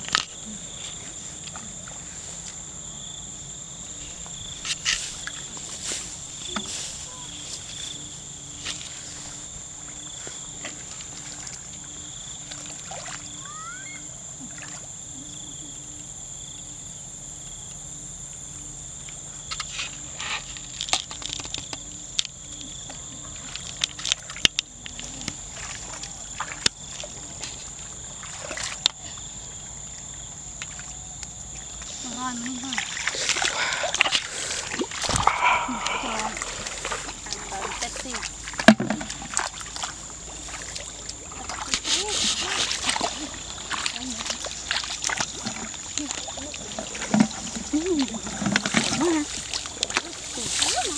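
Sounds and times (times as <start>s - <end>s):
high-pitched insect chorus: 0.0s - 50.9s
water sloshing and splashing: 4.0s - 15.0s, 19.4s - 50.9s.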